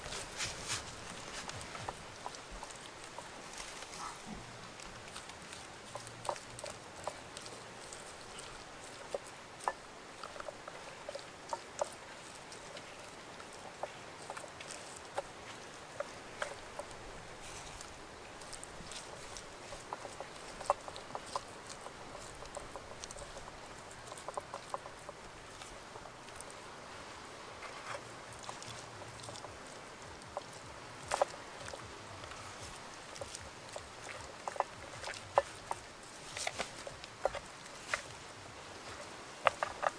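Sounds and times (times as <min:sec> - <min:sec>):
wet clicks and squelches: 0:00.0 - 0:26.7, 0:27.6 - 0:39.9
faint steady hiss: 0:00.0 - 0:39.9.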